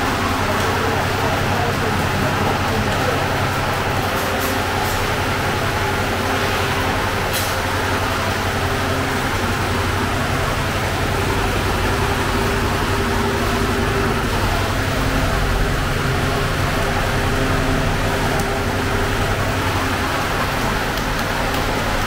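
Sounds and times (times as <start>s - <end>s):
bakery machinery droning: 0.0s - 22.0s.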